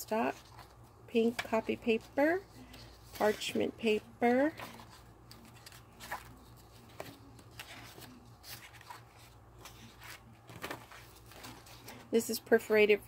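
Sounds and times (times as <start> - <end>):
paper rustling: 0.3 - 12.1.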